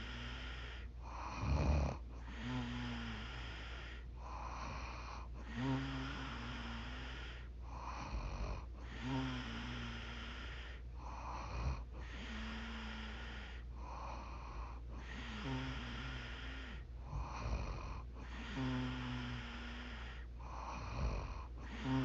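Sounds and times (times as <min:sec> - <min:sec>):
soft noisy out-breath: 0:00.0 - 0:22.0
woman snoring: 0:00.0 - 0:22.0.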